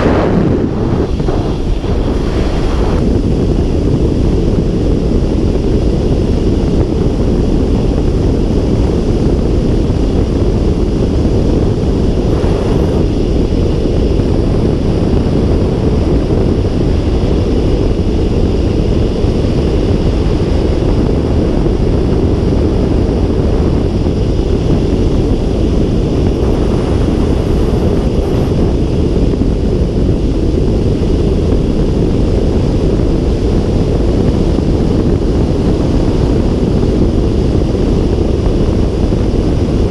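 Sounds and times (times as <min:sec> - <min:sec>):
air rushing around cockpit canopy: 0:00.0 - 0:39.9
wind buffeting on microphone: 0:00.0 - 0:39.9.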